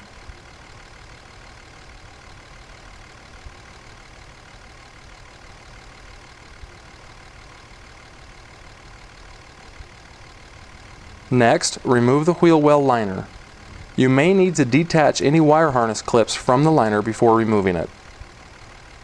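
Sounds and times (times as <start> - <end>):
faint mechanical hum: 0.0 - 19.0.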